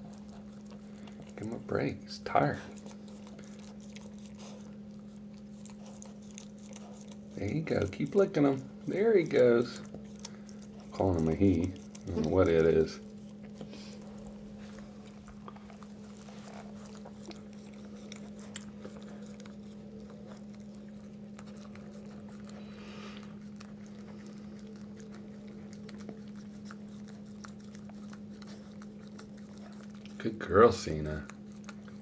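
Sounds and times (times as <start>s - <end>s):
dog licking puppy: 0.0s - 32.0s
steady low hum: 0.0s - 32.0s.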